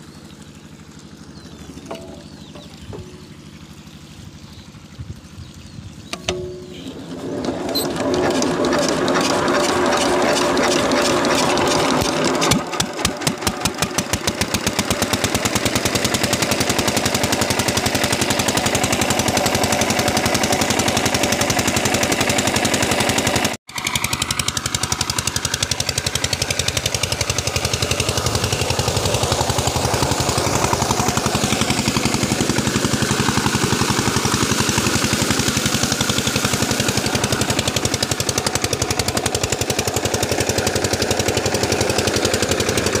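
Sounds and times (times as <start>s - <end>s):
diesel engine running: 0.0s - 43.0s
water gushing from pipe: 0.1s - 43.0s.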